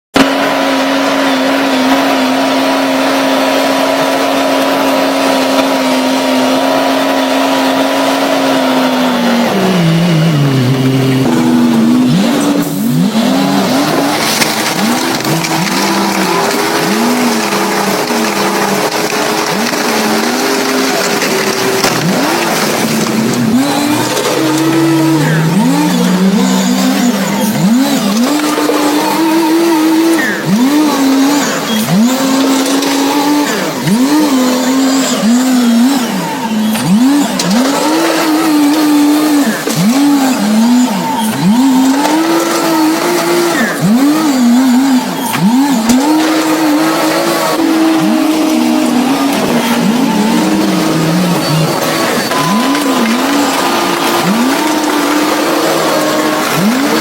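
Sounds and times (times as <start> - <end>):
heavy diesel engine revving: 0.0 - 57.0.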